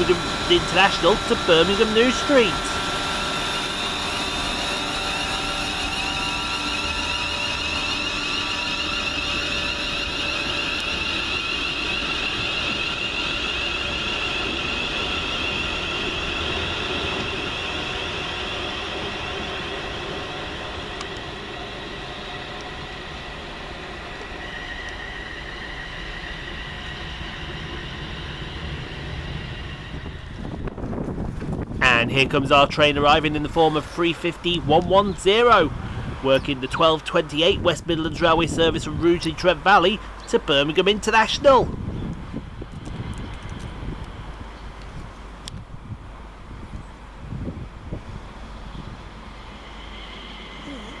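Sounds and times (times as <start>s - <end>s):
electric train whine and rumble: 0.0s - 51.0s.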